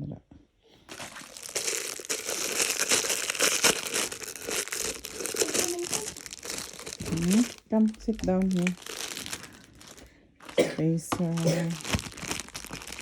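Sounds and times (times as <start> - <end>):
plastic packaging crinkling: 0.8 - 13.0.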